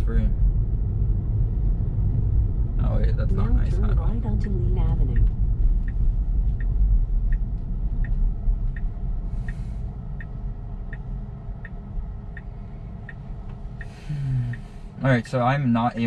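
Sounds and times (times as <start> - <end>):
road and tyre rumble: 0.0 - 16.0
turn signal ticking: 1.9 - 16.0.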